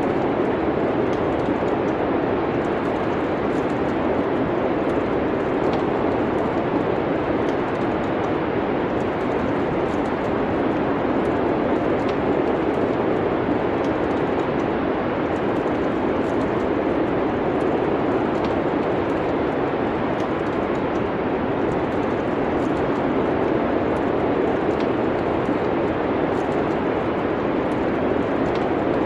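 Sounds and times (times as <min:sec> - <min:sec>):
fireplace fire crackling: 0:00.0 - 0:29.0.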